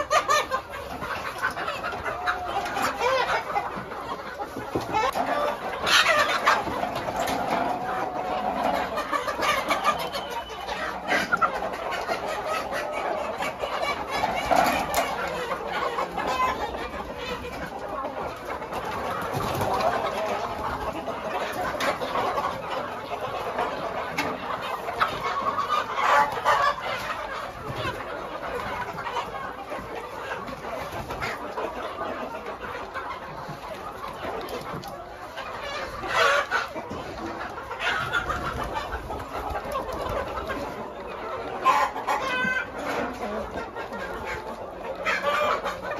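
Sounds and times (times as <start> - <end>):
hens clucking: 0.0 - 45.9.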